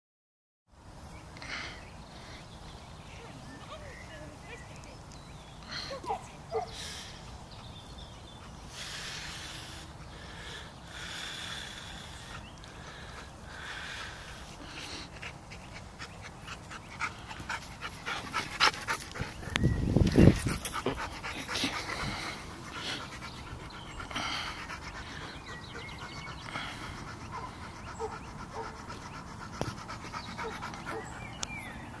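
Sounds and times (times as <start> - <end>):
dog panting: 5.8 - 32.0.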